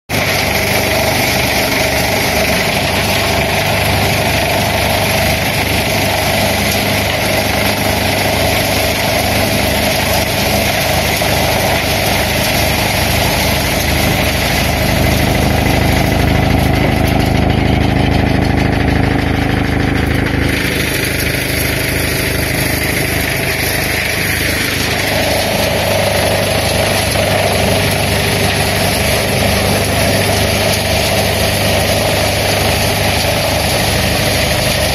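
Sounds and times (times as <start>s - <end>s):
tractor engine throbbing: 0.1s - 34.9s
wood chipper humming: 0.1s - 34.9s.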